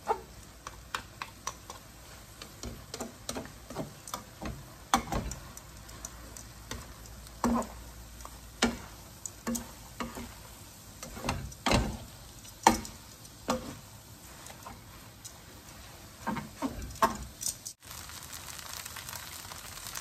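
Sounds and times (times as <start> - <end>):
faint sizzle: 0.0 - 20.0
utensils clacking on frying pan: 0.0 - 20.0.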